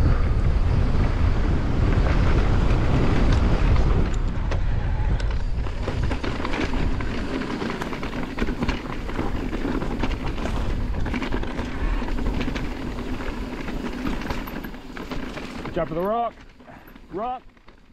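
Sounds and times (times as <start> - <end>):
wind buffeting microphone: 0.0 - 16.4
bike tyres rolling over dirt: 0.0 - 17.9
bike clicks and rattles: 1.0 - 17.9.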